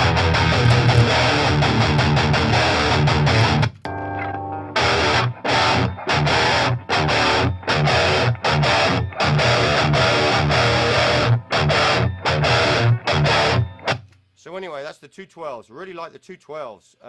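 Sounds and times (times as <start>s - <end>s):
distorted electric guitar riffs: 0.0s - 14.0s.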